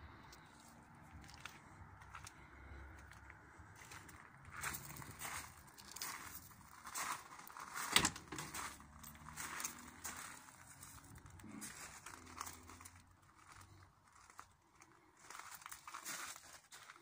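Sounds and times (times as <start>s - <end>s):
footsteps crunching on gravel: 0.3s - 17.0s.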